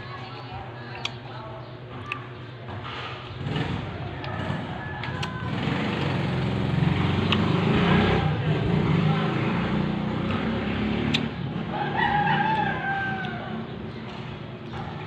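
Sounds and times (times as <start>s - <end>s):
motor engine running: 2.7s - 15.0s.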